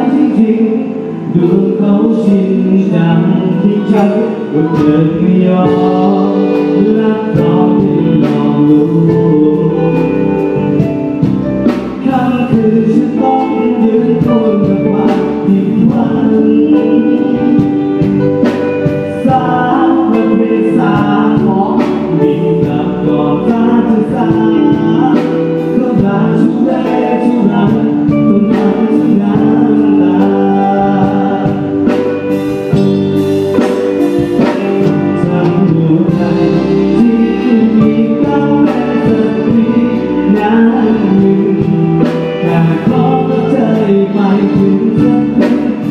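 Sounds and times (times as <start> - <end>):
drums: 0.0 - 45.9
live band playing: 0.0 - 45.9
person singing: 0.0 - 45.9.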